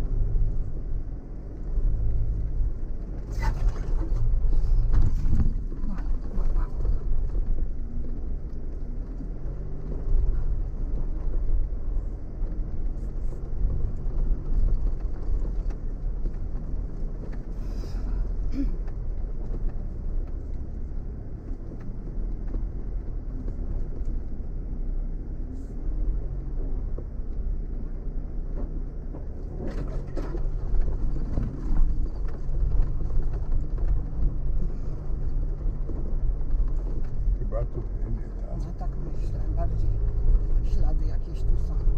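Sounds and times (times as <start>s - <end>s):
off-road vehicle engine rumble: 0.0s - 41.9s.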